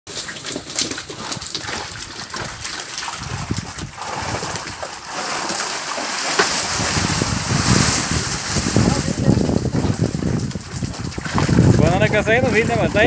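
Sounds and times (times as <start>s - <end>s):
fish slapping on deck: 0.1s - 13.0s
fish thrashing in a net: 0.1s - 13.0s
water splashing: 0.1s - 13.0s.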